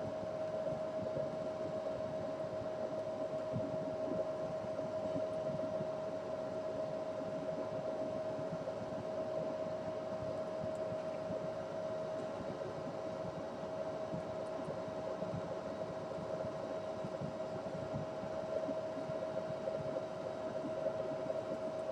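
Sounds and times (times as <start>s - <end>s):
steady mechanical hum: 0.0s - 21.9s.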